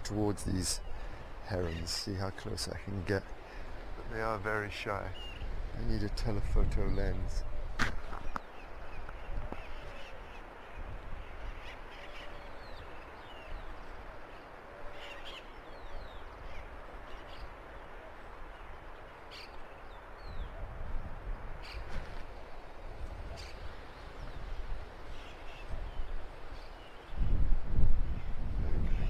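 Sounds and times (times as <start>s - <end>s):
high falling bird calls: 0.0s - 29.0s
wind rumbling on microphone: 0.0s - 29.0s.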